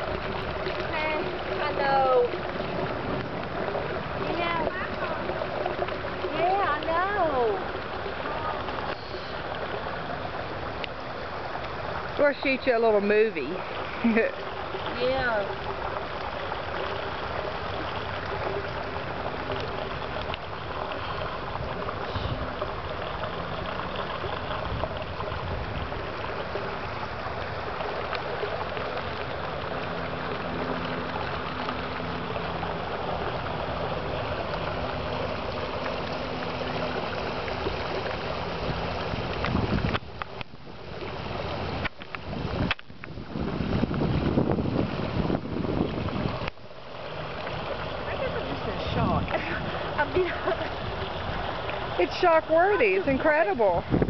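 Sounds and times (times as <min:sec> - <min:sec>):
floodwater rushing: 0:00.0 - 0:54.0
torrential rain: 0:00.0 - 0:54.0.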